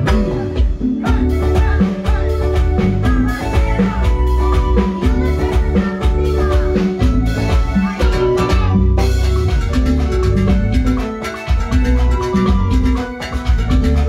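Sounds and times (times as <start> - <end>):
electronic keyboard: 0.0 - 14.0
heavy bass: 0.0 - 14.0
steady drum beat: 0.0 - 14.0.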